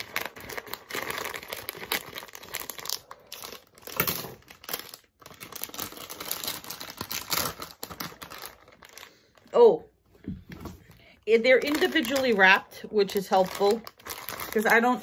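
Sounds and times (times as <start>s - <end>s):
plastic bag crinkling: 0.0s - 9.8s, 11.2s - 15.0s.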